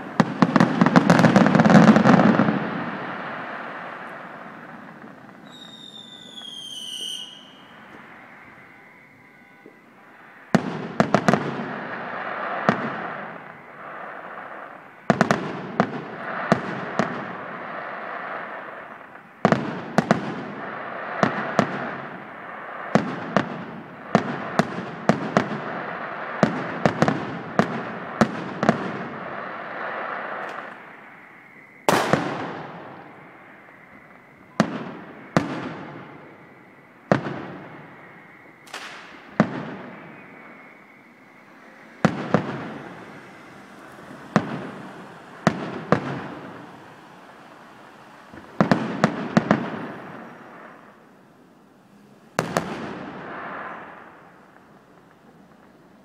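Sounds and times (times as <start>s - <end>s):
firework shells bursting: 0.0s - 50.9s
firework crackling: 0.0s - 56.0s.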